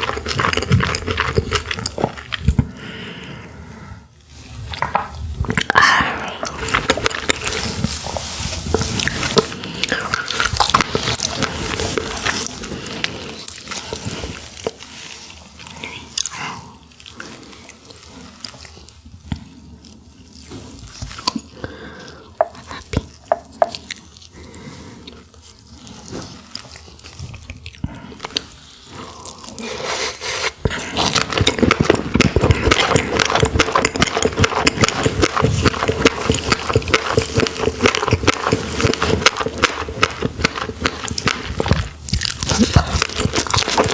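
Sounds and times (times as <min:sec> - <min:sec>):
close-miked eating and chewing: 0:00.0 - 0:43.9.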